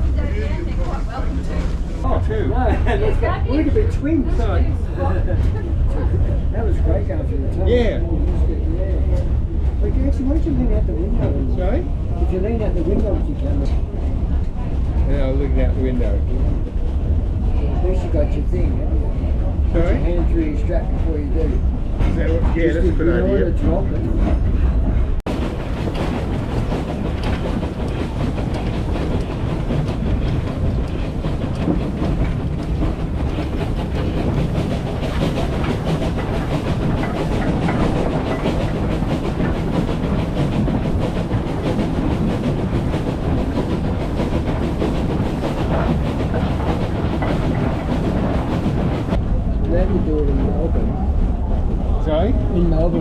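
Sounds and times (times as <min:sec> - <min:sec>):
train wheels rattling on track: 0:00.0 - 0:53.0.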